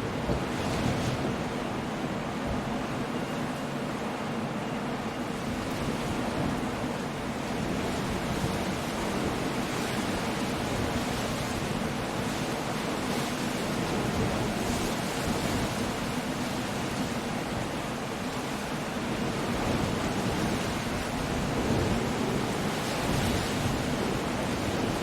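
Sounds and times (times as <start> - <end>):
stormy sea surf: 0.0 - 25.0
wind: 0.0 - 25.0.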